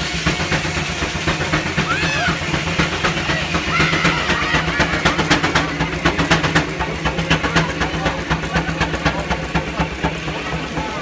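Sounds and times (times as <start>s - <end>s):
steam engine driving sawmill: 0.0s - 11.0s.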